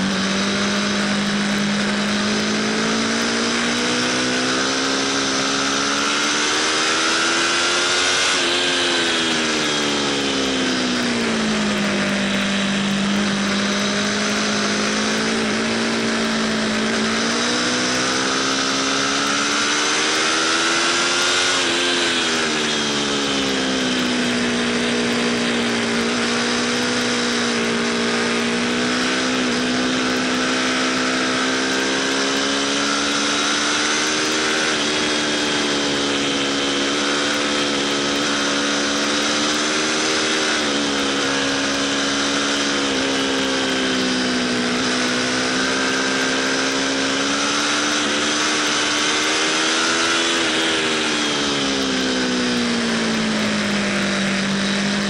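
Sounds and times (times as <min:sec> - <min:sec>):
motorcycle engine at speed: 0:00.0 - 0:55.0.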